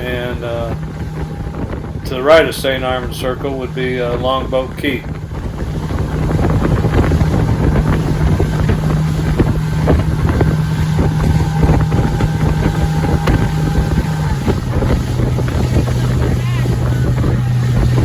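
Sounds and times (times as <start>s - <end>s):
motorboat engine droning: 0.0s - 18.0s
water rushing: 0.0s - 18.0s
wind on microphone: 0.0s - 18.0s.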